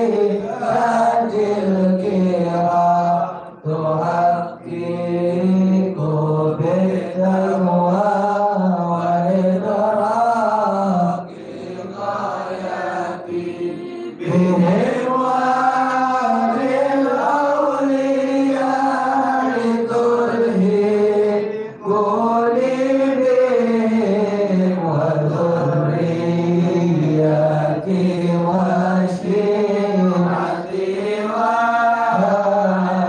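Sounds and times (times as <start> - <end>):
man chanting melodically: 0.0 - 33.0.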